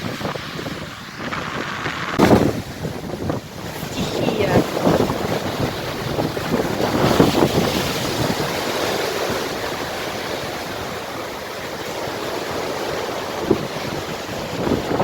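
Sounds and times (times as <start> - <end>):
waves breaking: 0.0 - 15.0
wind buffeting microphone: 0.0 - 15.0.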